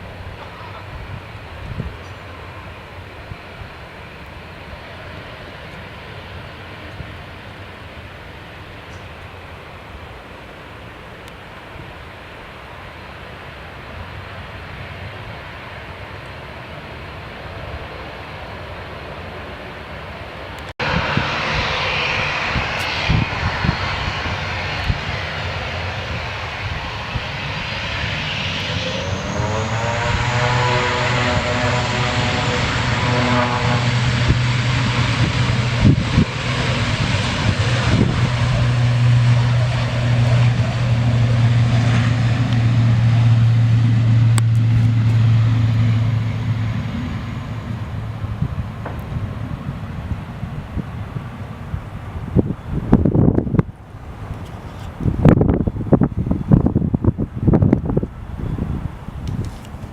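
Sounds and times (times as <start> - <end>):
aircraft engines roaring: 0.0 - 59.9
jet engine whine: 0.0 - 59.9.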